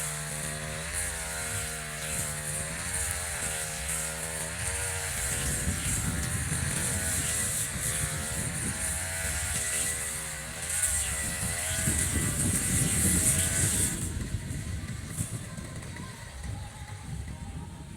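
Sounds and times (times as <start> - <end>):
brush cutter engine running: 0.0 - 17.9.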